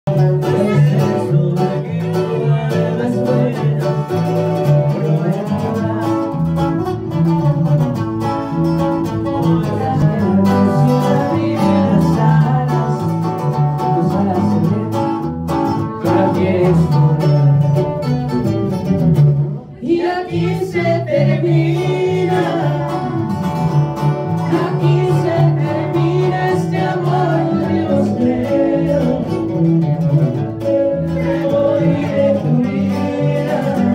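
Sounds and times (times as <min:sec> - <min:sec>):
acoustic guitars playing: 0:00.0 - 0:33.9
electric bass: 0:00.0 - 0:33.9
man singing: 0:00.1 - 0:07.8, 0:09.0 - 0:18.6, 0:19.8 - 0:33.9.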